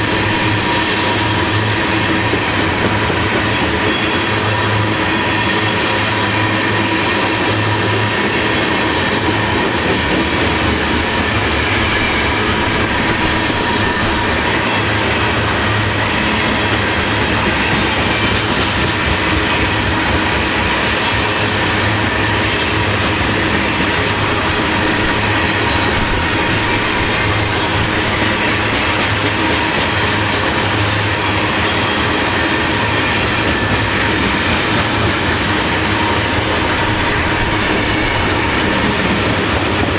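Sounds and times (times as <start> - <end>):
clicks of train wheels: 0.0 - 39.9
steel wheels rumbling on rails: 0.0 - 39.9.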